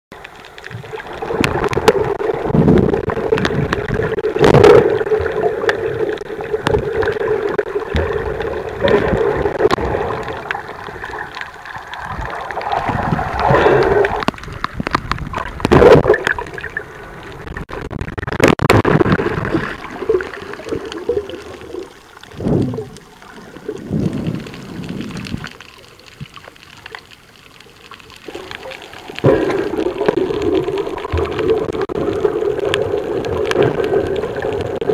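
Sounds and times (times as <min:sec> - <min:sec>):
water gurgling and sloshing: 0:00.1 - 0:34.9.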